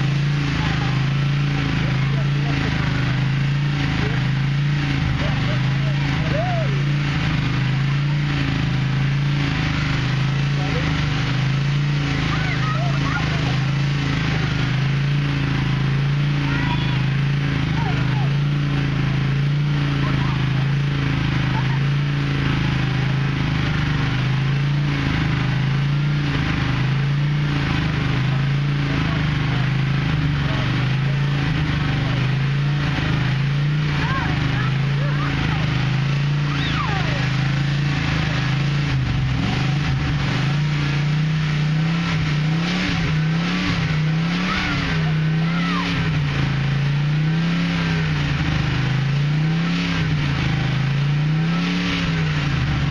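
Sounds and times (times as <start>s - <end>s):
engine running steadily: 0.0s - 52.9s.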